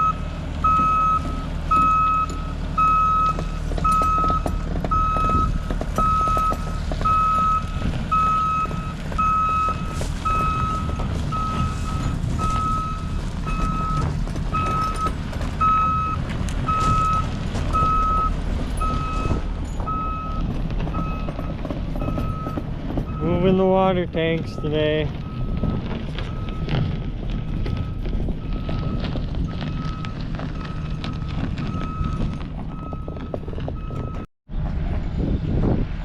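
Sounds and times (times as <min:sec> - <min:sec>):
reversing alarm beeping: 0:00.0 - 0:23.6, 0:24.4 - 0:26.8, 0:27.7 - 0:34.3
vehicle engine running: 0:00.0 - 0:36.0.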